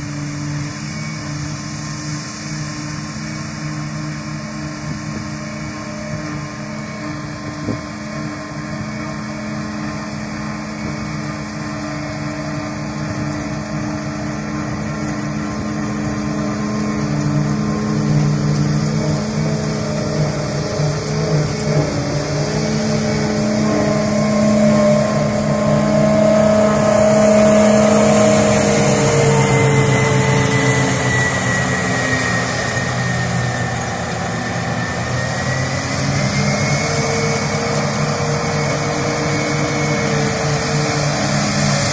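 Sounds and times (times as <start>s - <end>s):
harvester and tractor engines running: 0.0s - 41.9s
high whine: 0.0s - 41.9s.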